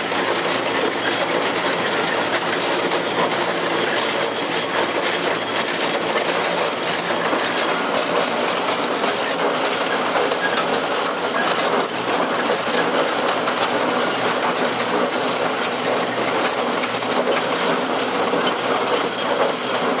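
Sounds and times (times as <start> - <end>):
steam traction engine clattering: 0.0 - 20.0.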